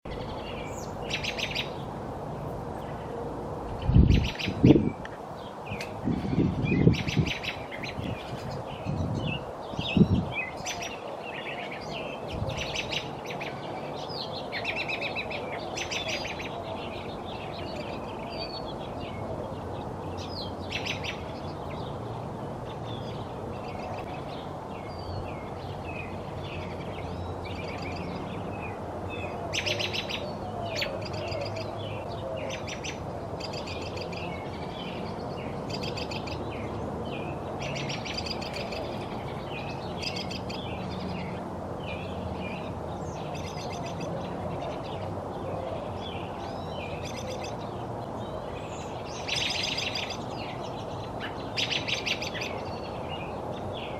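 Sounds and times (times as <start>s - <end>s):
robins chirping and calling: 0.1s - 53.9s.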